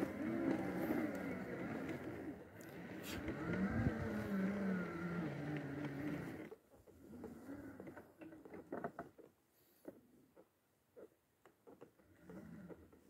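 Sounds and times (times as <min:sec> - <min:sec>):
wheelchair motors whining: 0:00.0 - 0:13.0.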